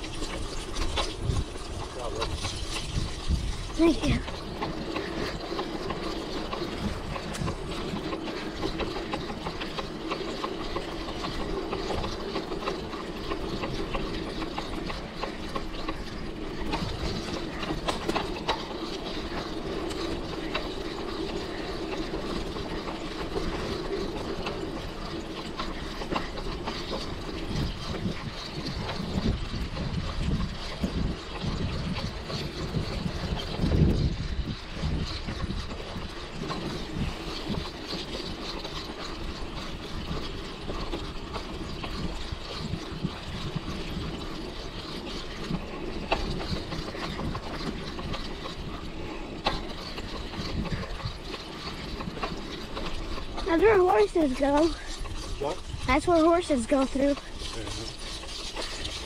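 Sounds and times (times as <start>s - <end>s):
bike chain and frame rattling: 0.0s - 59.0s.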